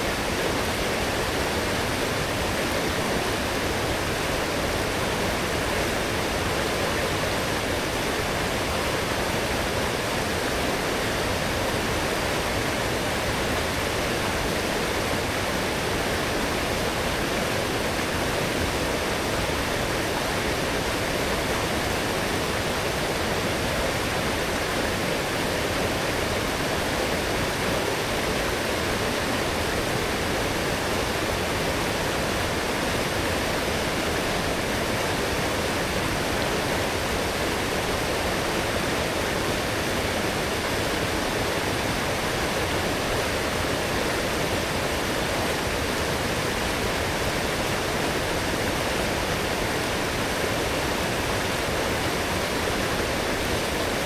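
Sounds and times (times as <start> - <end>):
stream water rushing and splashing: 0.0 - 54.0.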